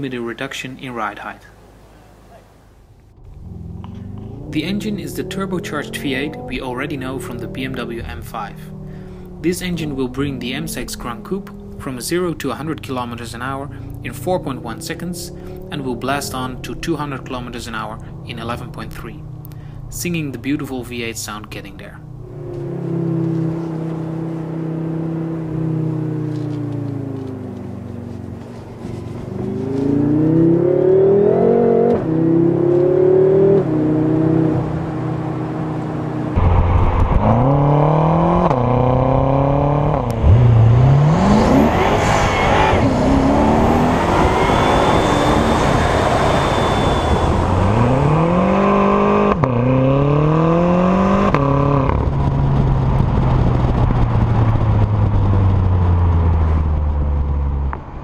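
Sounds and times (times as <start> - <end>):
car engine accelerating through gears: 2.9 - 20.8, 21.5 - 58.0.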